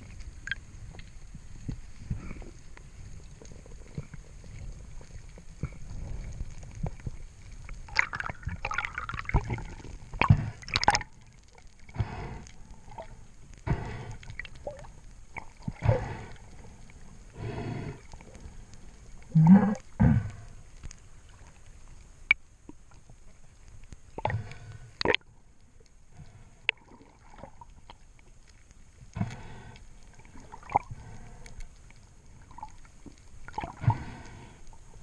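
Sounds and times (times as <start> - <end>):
water gurgling and sloshing: 0.0 - 35.0.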